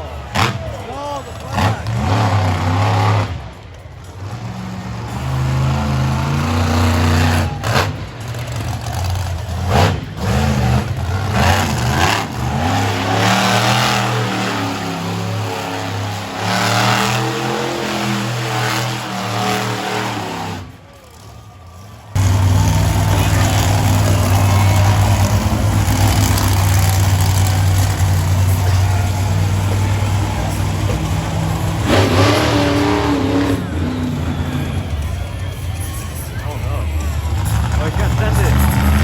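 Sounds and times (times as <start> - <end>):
truck engine revving hard: 0.0 - 21.3, 22.2 - 36.0, 36.8 - 39.0.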